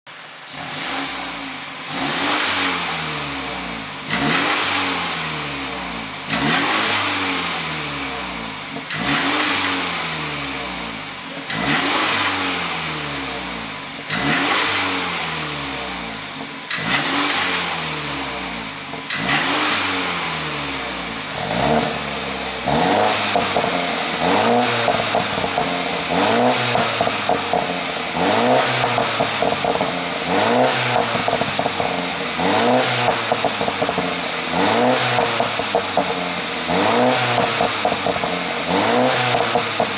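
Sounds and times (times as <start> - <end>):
car engine revving: 0.2 - 39.9
exhaust crackles and pops: 1.9 - 39.9.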